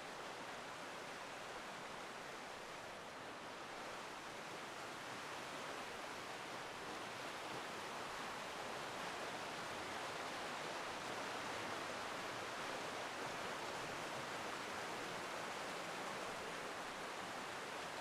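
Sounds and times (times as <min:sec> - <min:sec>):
river water rushing: 0:00.1 - 0:18.0.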